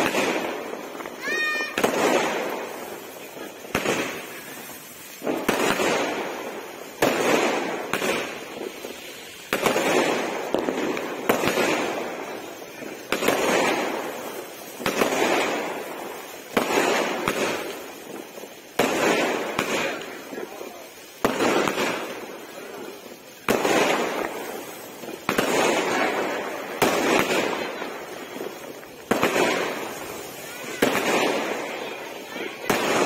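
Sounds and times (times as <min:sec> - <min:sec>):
fireworks bursting with crackle: 0:00.0 - 0:33.0.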